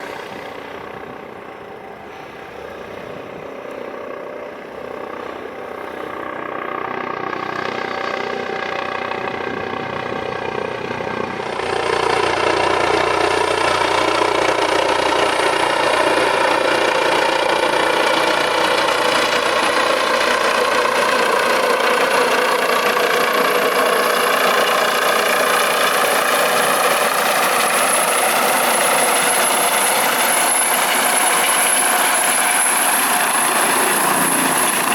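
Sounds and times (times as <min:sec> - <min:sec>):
helicopter engines and rotors: 0:00.0 - 0:34.9
high turbine whine: 0:00.0 - 0:34.9.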